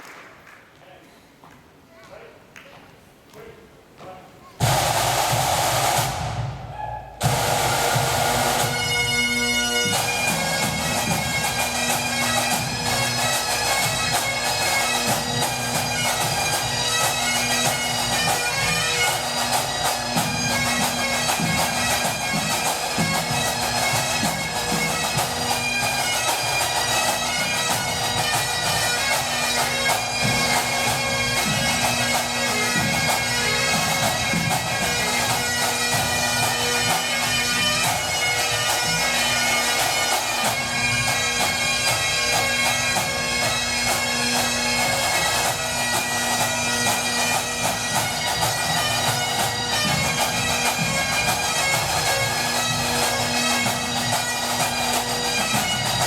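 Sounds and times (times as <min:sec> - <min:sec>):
bagpipe band playing: 0:04.6 - 0:56.0.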